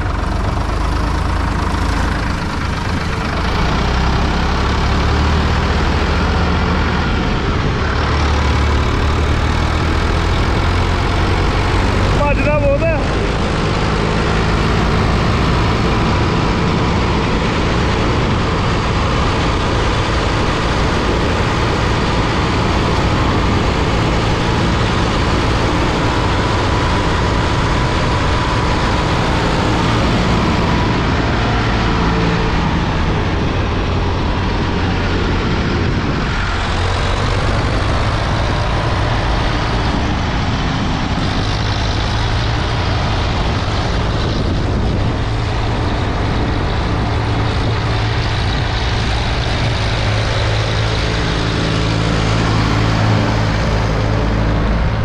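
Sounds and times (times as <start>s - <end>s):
road noise: 0.0s - 55.0s
tractor engine running: 0.0s - 55.0s
wind noise: 0.0s - 55.0s.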